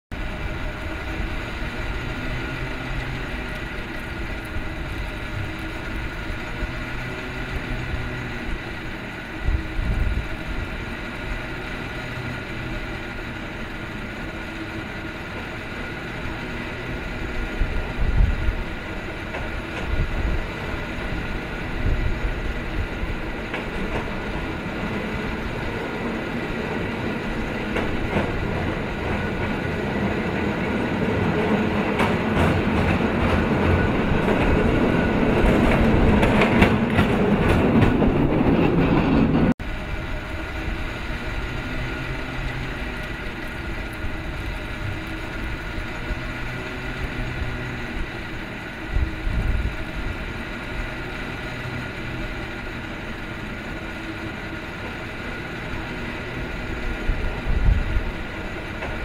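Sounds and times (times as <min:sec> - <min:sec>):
cable car rail rumble: 0:00.1 - 0:59.0.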